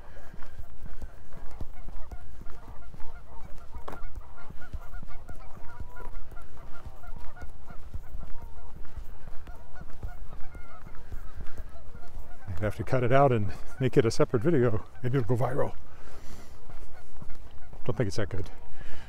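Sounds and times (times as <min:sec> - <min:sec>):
close footsteps: 0:00.0 - 0:19.0
geese honking: 0:00.0 - 0:19.0.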